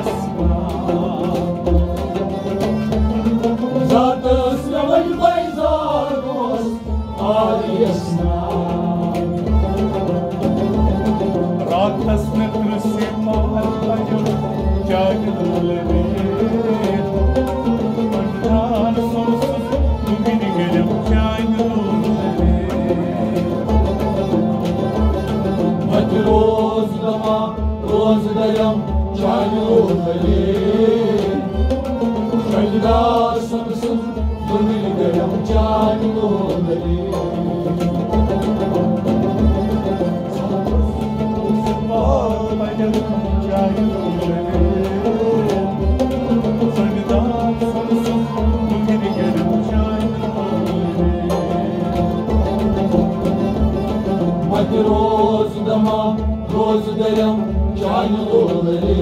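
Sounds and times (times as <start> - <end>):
sustained instrumental melody: 0.0 - 59.0.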